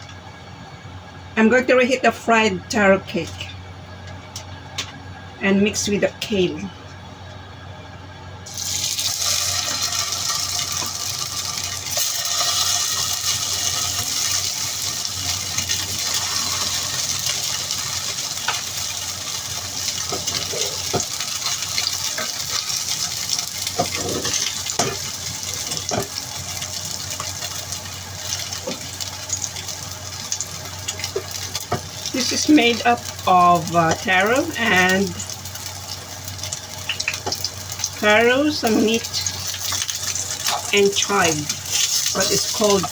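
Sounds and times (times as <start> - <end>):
food sizzling in hot oil: 8.4 - 42.9.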